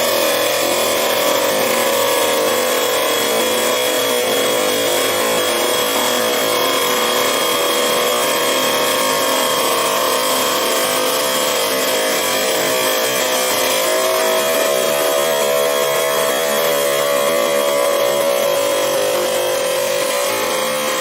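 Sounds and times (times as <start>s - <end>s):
chop saw cutting steel: 0.0s - 21.0s.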